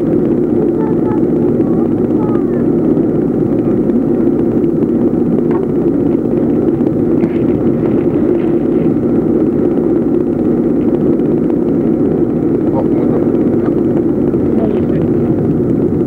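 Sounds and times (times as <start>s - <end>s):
motor running with low drone: 0.0s - 16.0s.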